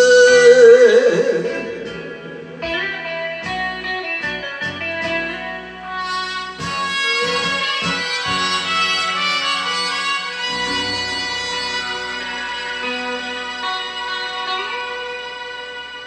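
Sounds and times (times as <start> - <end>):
instrumental band backing track: 0.0 - 16.0.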